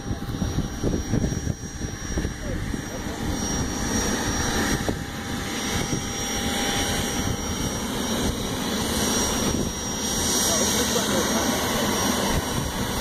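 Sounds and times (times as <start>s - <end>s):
jet engine rumble and whine: 0.0s - 13.0s.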